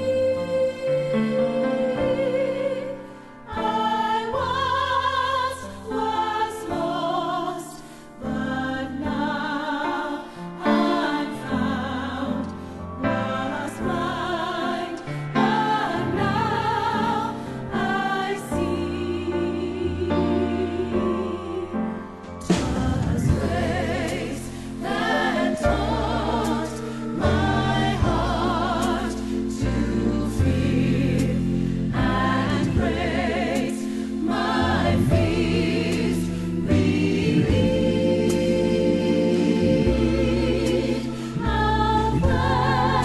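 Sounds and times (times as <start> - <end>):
choir singing slow phrases: 0.0 - 43.0.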